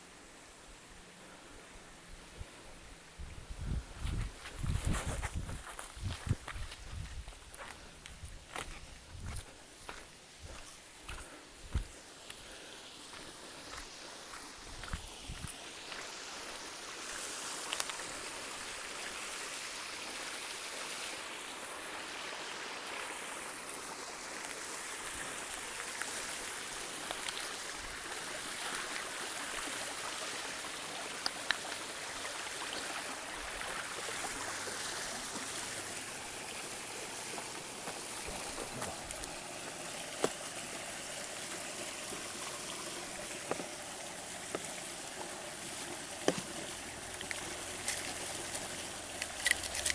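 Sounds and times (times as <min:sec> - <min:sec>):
stream running: 0:00.0 - 0:49.9.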